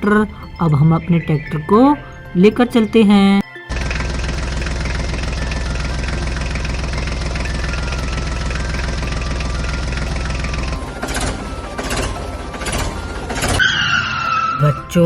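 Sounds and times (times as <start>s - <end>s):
toy tractor engine idling: 0.0s - 15.0s.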